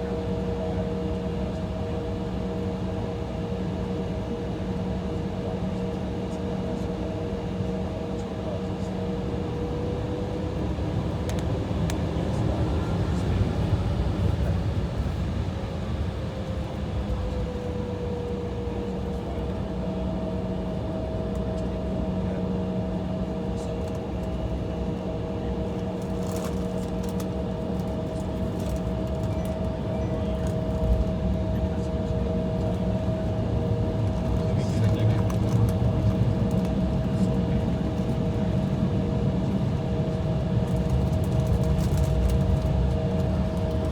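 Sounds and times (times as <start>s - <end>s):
aircraft cabin engine drone: 0.0s - 43.9s.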